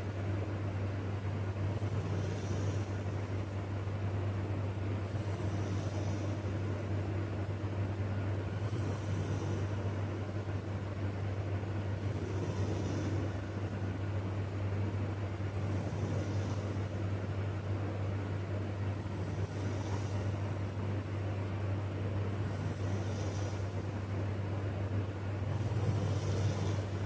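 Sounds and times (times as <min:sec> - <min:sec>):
low hum and rumble: 0:00.0 - 0:27.0
sleeping person breathing: 0:01.4 - 0:24.5, 0:25.4 - 0:27.0.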